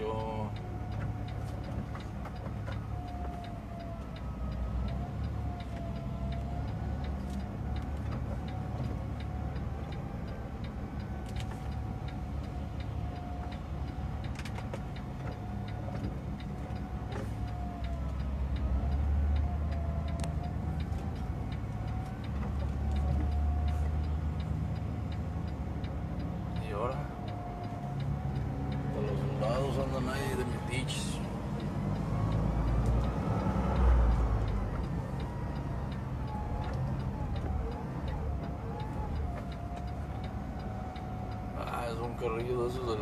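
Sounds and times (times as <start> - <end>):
light ticks: 0.0 - 43.0.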